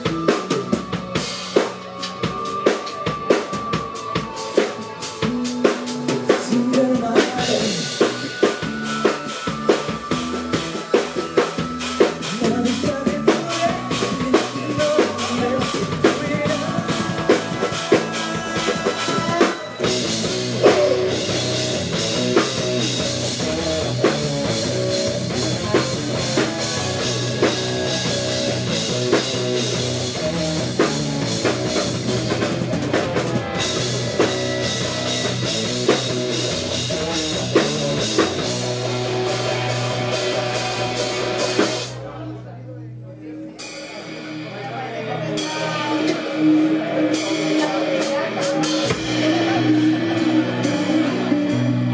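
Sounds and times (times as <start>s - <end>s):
rock band playing live: 0.0s - 42.6s, 43.5s - 51.9s.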